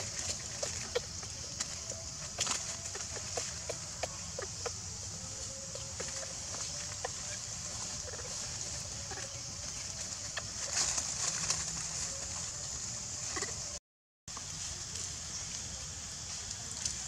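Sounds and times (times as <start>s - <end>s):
dry leaves crackling: 0.0s - 17.0s
steady high hiss: 0.0s - 17.0s.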